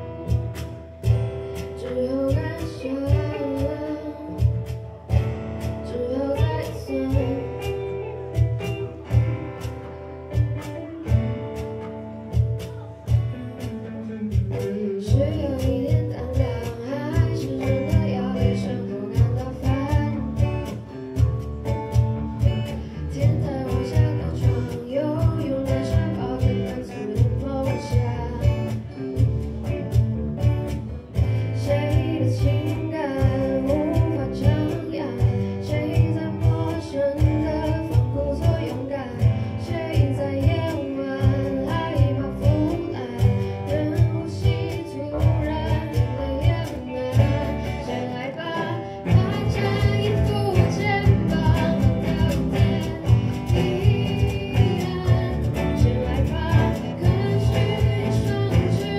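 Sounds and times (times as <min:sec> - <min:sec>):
percussion beat: 0:00.0 - 0:03.8, 0:04.4 - 0:48.0, 0:49.0 - 0:58.9
girl singing into a microphone: 0:00.0 - 0:11.4, 0:12.3 - 0:58.9
electric and acoustic guitars: 0:00.0 - 0:58.9.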